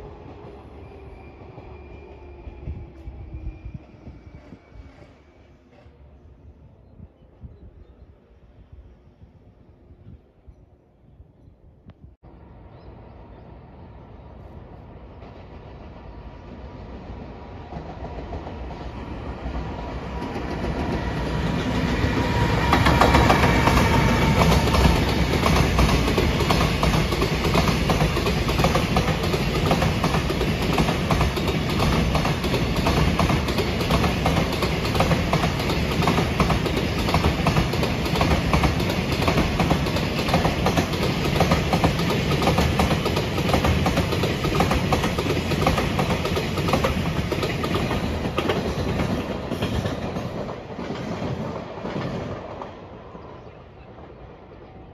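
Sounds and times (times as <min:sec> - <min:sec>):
freight train passing: 0:00.0 - 0:11.2, 0:12.2 - 0:54.9.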